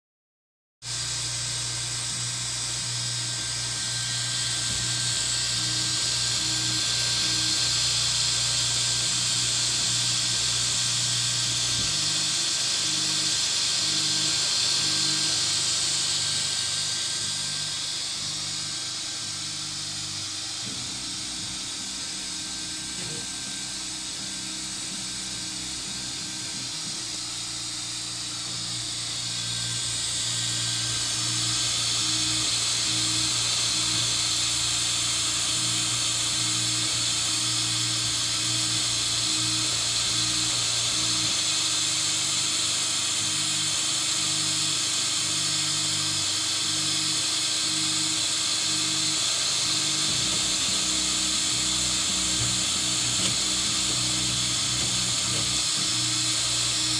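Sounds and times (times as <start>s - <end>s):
stepper motors whining: 0.9s - 56.9s.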